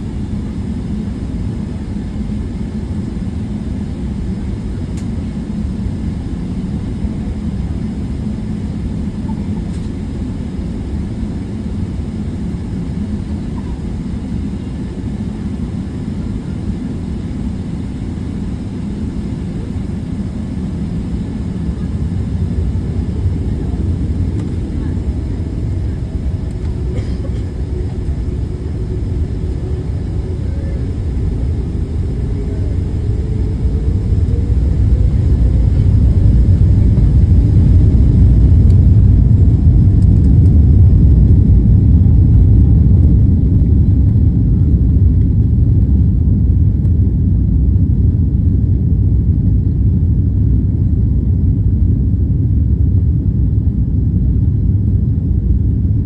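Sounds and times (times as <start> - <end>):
jet engine low rumble: 0.0 - 56.0
jet engine whine: 0.0 - 56.0.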